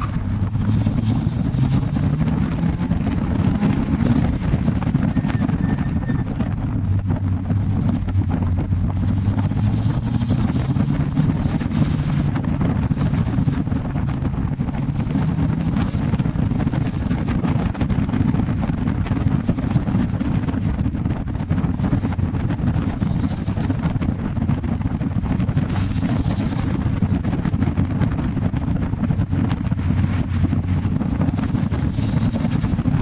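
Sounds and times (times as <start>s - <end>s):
car engine accelerating: 0.0s - 33.0s
wind buffeting microphone: 0.0s - 33.0s.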